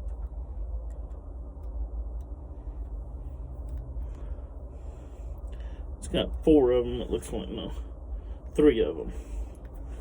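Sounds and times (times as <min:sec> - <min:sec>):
low uneven rumble: 0:00.0 - 0:10.0.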